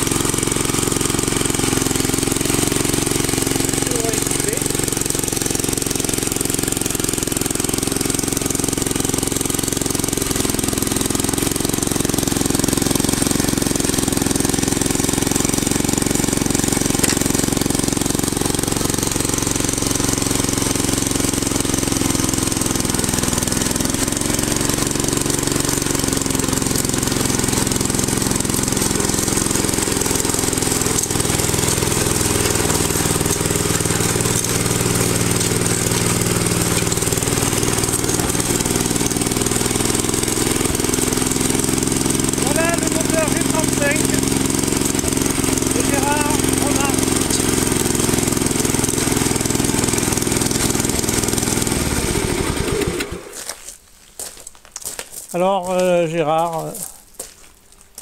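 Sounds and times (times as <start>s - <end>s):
small engine running: 0.0s - 53.6s.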